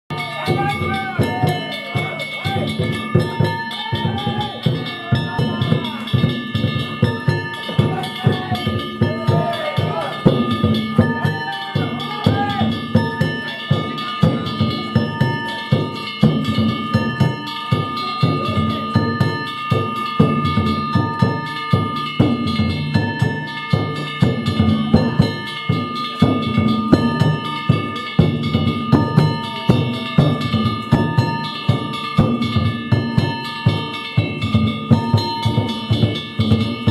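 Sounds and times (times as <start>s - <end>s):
drum beaten fast: 0.1s - 36.9s
hand-struck gongs ringing: 0.1s - 36.9s
voices calling out: 0.1s - 36.9s.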